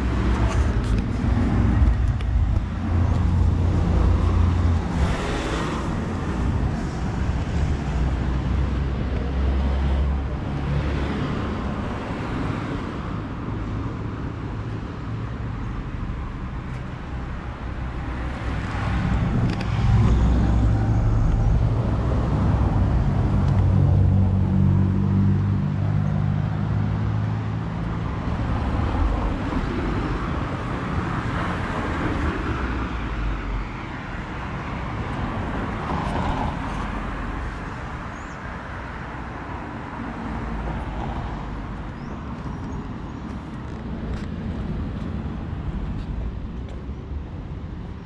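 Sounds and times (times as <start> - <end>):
car passing with tyre noise: 0.0 - 48.0
vehicle engine hum: 0.0 - 48.0.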